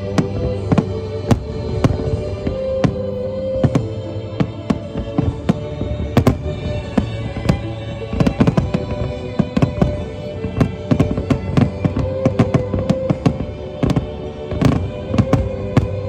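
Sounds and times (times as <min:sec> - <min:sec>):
fireworks bangs and crackles: 0:00.0 - 0:16.0
music with long held notes: 0:00.0 - 0:16.0.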